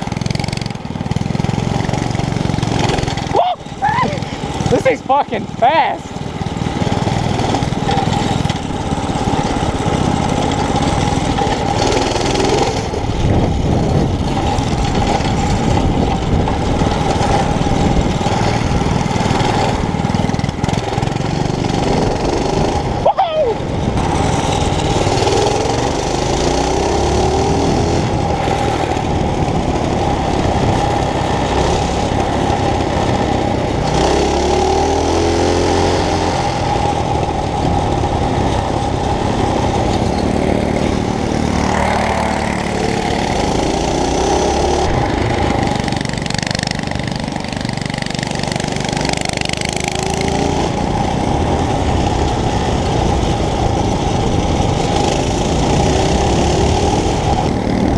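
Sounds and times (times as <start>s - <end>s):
mini bike engine revving: 0.0s - 57.9s.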